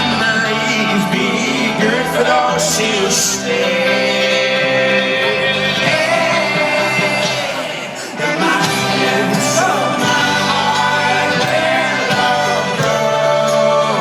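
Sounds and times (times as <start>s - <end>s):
live folk-rock band: 0.0s - 14.0s
people singing: 0.0s - 14.0s.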